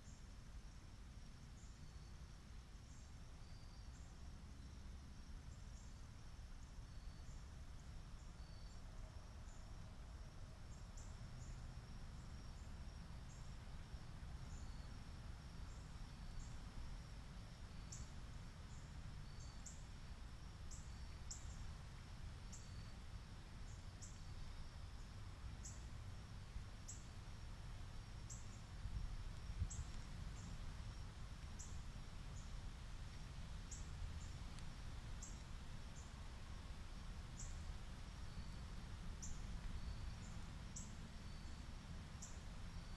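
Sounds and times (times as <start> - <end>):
high insect chirps: 0.0 - 42.9
insect trill: 0.0 - 42.9.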